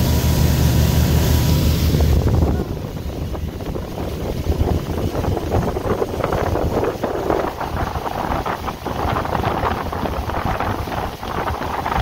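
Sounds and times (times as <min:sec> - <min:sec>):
motorboat engine rumble: 0:00.0 - 0:12.0
water rushing along hull: 0:00.0 - 0:12.0
wind buffeting microphone: 0:01.8 - 0:12.0.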